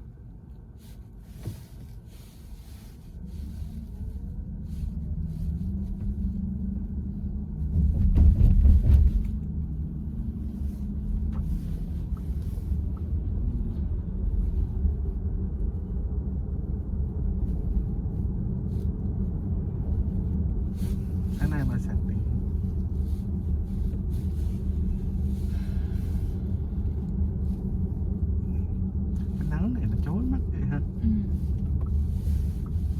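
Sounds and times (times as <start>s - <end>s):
road and tyre rumble in car cabin: 0.0s - 32.9s.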